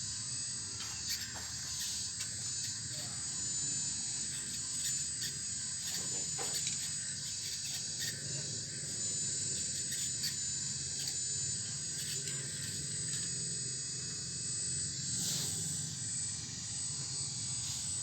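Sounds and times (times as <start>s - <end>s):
hydraulic pump whining: 0.8s - 18.0s.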